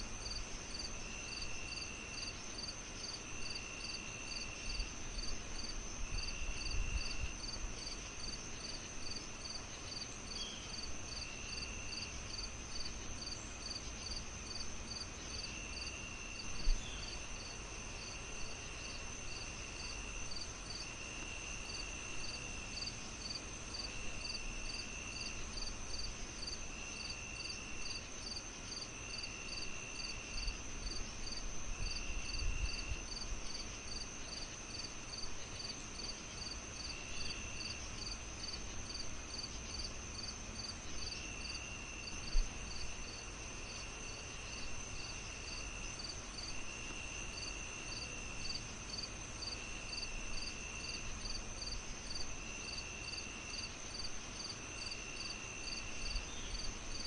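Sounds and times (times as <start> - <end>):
crickets chirping: 0.0 - 57.0
insect trills: 0.0 - 57.0
steady low hiss: 0.0 - 57.0.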